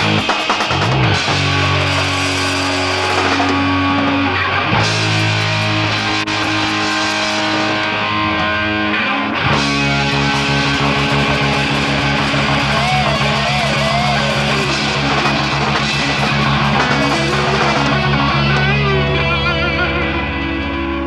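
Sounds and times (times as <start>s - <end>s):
guitar with bent notes: 0.0s - 21.0s
instrumental rock band: 0.0s - 21.0s.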